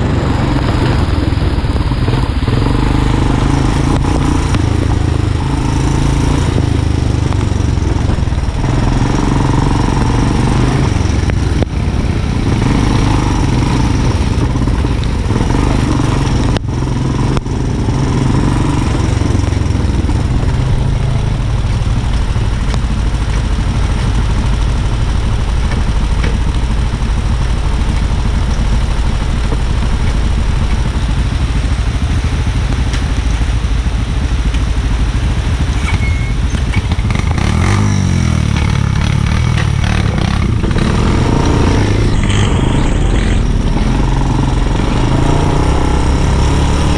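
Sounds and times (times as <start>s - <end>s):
atv engine running: 0.0s - 46.9s.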